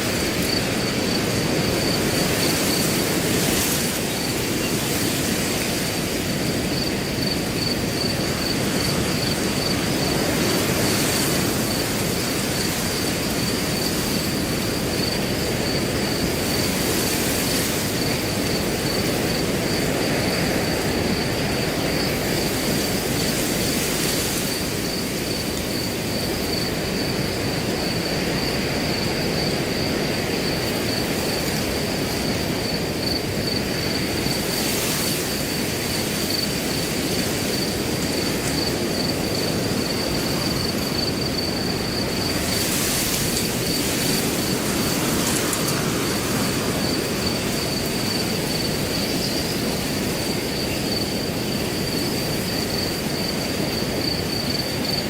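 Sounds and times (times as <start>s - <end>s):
cricket trill: 0.0s - 55.0s
wind blowing through grass: 0.0s - 55.0s.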